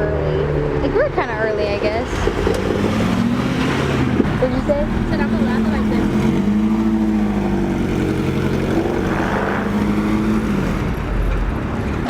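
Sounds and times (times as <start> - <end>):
car engines droning: 0.0 - 12.0.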